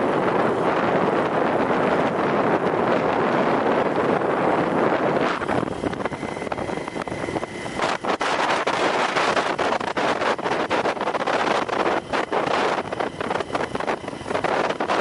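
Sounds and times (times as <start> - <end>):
faint steady whine: 0.0 - 15.0
wind rushing over microphone: 0.0 - 15.0.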